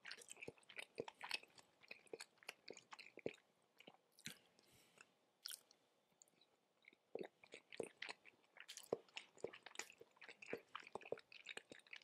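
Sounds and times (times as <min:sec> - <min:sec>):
person chewing with mouth smacks: 0:00.0 - 0:12.0.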